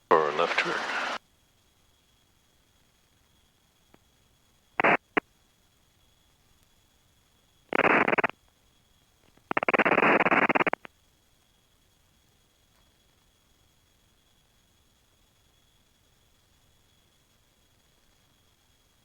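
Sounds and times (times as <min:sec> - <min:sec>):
faint steady hiss: 0:00.0 - 0:01.2, 0:02.7 - 0:19.0.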